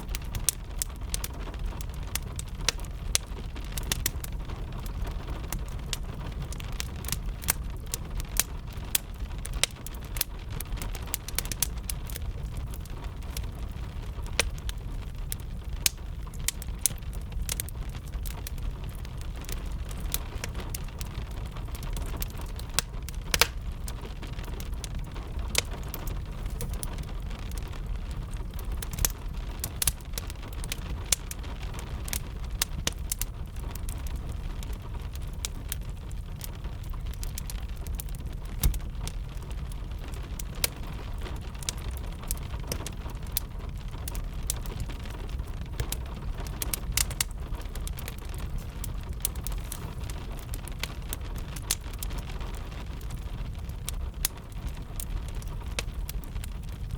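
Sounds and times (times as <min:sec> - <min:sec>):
gentle rain hissing: 0:00.0 - 0:56.9
wood fire crackling and popping: 0:00.0 - 0:56.9.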